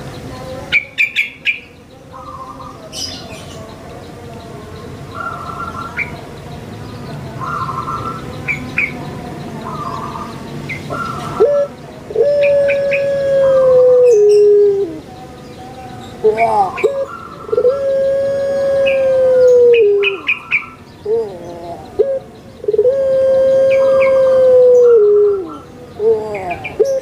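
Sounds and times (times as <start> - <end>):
birds chirping: 0.0 - 27.0
dove cooing: 0.0 - 27.0.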